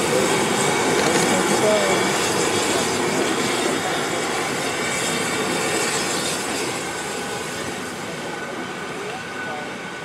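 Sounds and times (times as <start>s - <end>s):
steam hissing: 0.0s - 9.9s.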